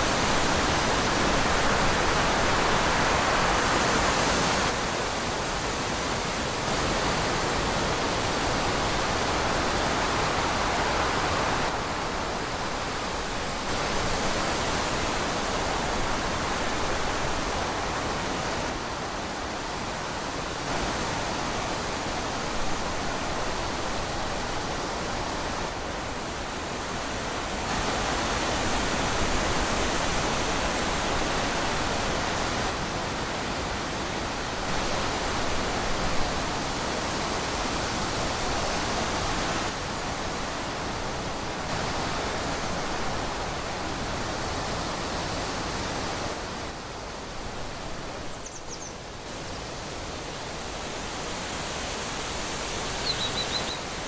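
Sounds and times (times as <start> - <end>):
wind rushing through trees: 0.0 - 54.0.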